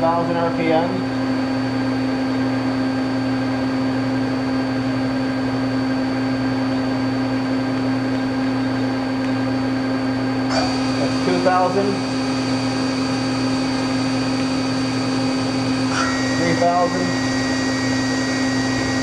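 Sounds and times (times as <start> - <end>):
machine hum with fixed tones: 0.0 - 19.0.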